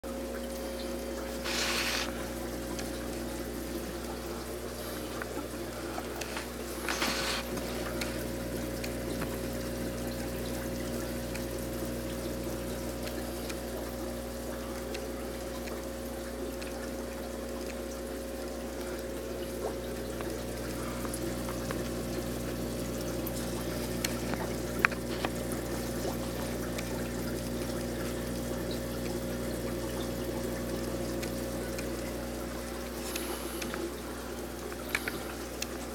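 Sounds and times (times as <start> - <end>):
aquarium filter bubbling: 0.0 - 35.9.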